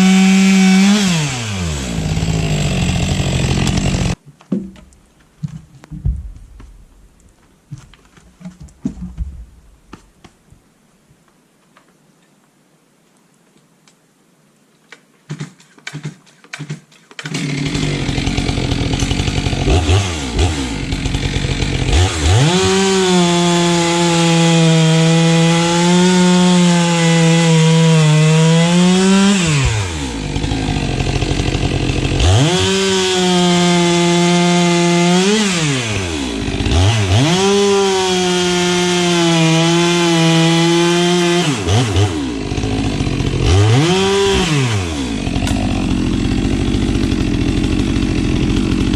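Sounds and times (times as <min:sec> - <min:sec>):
chainsaw cutting logs: 0:00.0 - 0:10.4, 0:15.3 - 0:48.9.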